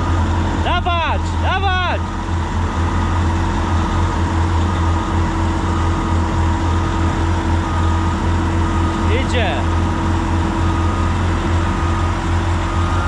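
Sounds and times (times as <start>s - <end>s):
diesel machinery humming: 0.0s - 13.0s.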